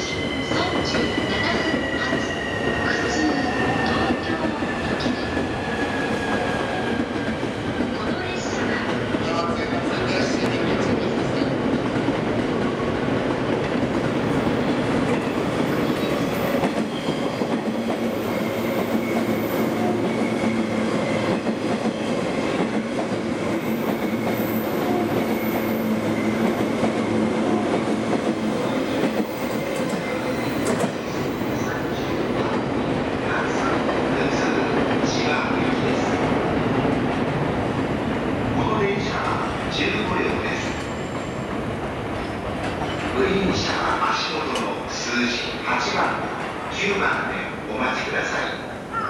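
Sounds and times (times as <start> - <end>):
train wheels on rails: 0.0 - 48.1.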